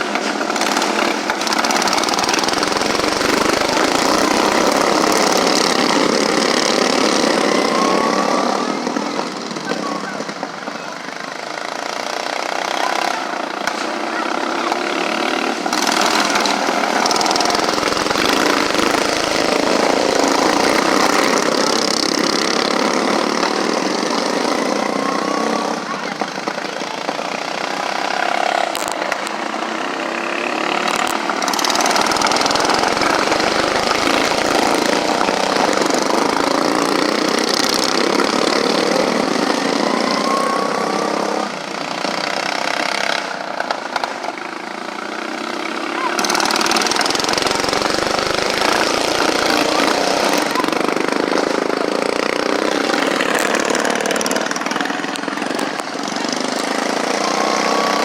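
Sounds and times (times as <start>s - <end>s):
indistinct voices: 0.0s - 42.5s, 45.8s - 58.0s
engines running: 0.0s - 58.0s.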